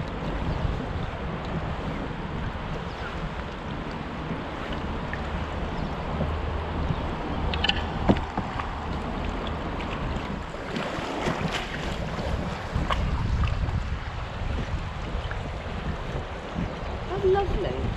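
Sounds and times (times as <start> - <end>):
paddle splashes: 0.0 - 17.9
river water flowing: 0.0 - 17.9
wind on microphone: 0.0 - 17.9.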